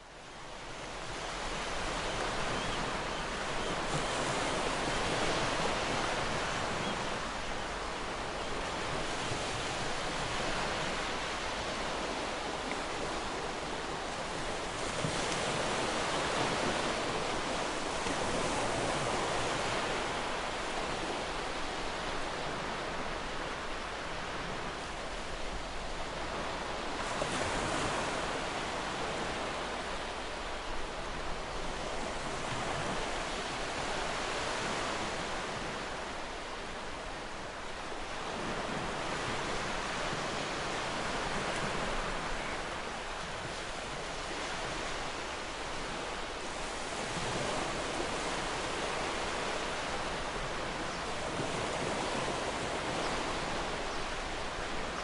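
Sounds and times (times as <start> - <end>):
ocean waves washing onto shore: 0.0 - 55.0.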